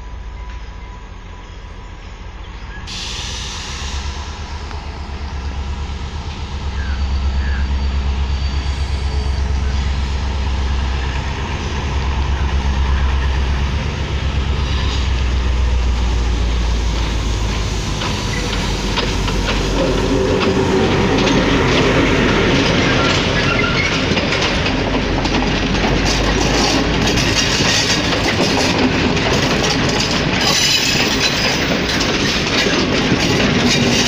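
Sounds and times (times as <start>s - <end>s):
diesel locomotive engine rumble: 0.0s - 34.0s.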